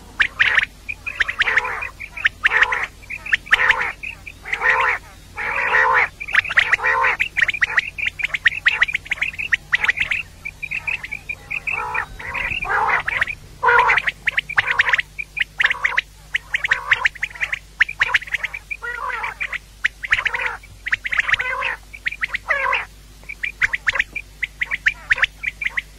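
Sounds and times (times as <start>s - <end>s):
quail calling: 0.0s - 25.9s.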